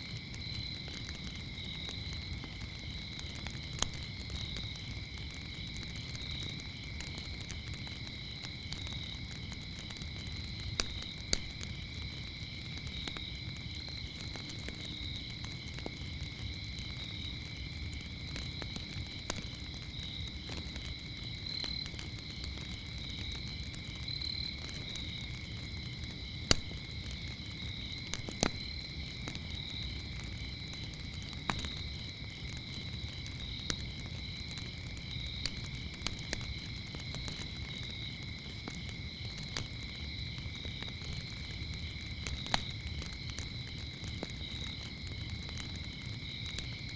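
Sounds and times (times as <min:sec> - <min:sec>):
crickets chirping: 0:00.0 - 0:46.9
fire pops: 0:00.0 - 0:46.9
wood fire crackling: 0:00.0 - 0:46.9.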